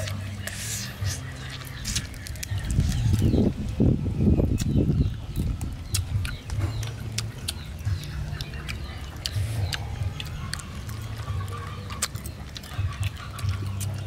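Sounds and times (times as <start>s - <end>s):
crunchy chewing: 0.0s - 3.8s, 4.4s - 14.0s
steady low rumble: 0.0s - 14.0s.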